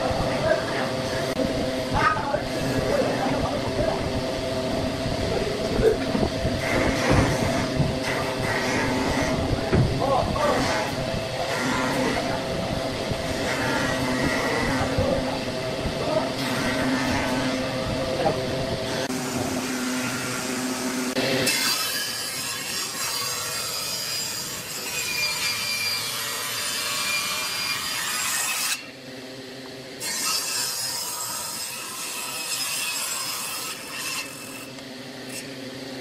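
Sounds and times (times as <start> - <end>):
table saw cutting wood: 0.0 - 29.0, 30.0 - 36.0
workshop machine hum: 0.0 - 36.0.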